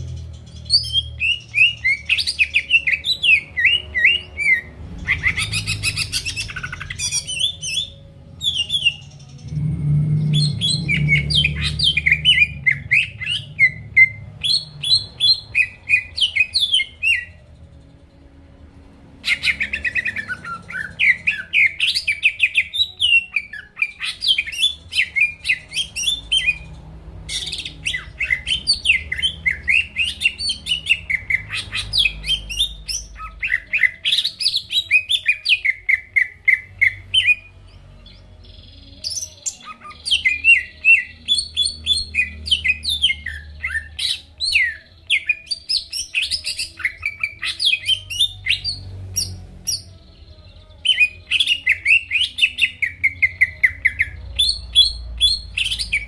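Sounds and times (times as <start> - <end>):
bird singing chirps and whistles: 0.5 - 17.4, 19.2 - 26.7, 27.3 - 37.5, 38.1 - 56.0.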